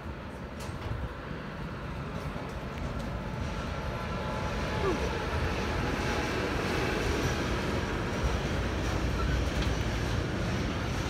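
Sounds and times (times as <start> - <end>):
train wheels on track: 0.0 - 11.0.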